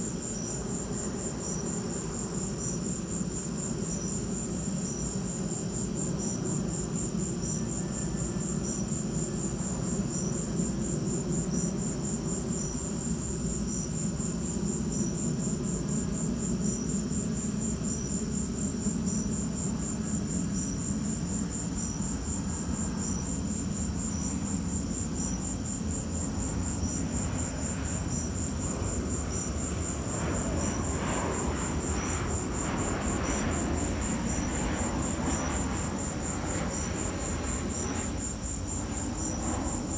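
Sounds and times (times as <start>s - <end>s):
airplane engine drone: 0.0s - 39.9s
crickets chirping: 0.0s - 39.9s.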